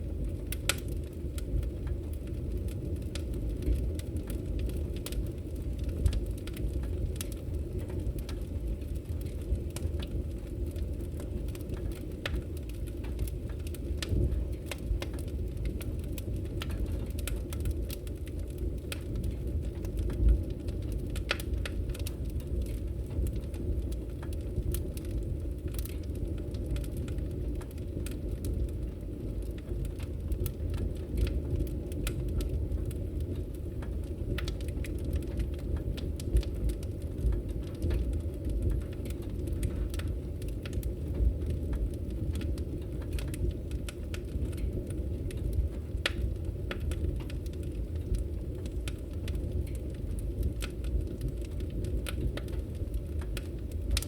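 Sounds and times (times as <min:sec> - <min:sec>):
fire crackling and popping: 0:00.0 - 0:54.0
fire rumbling: 0:00.0 - 0:54.0.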